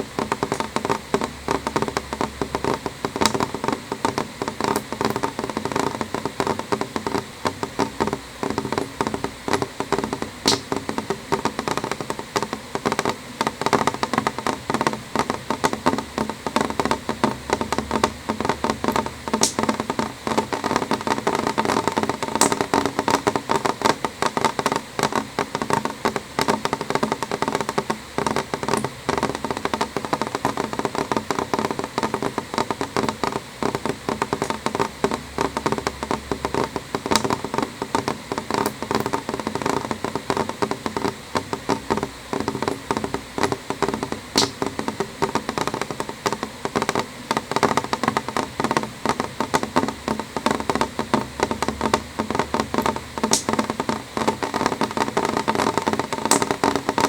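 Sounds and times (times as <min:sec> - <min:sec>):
rain tapping on window glass: 0:00.0 - 0:57.0.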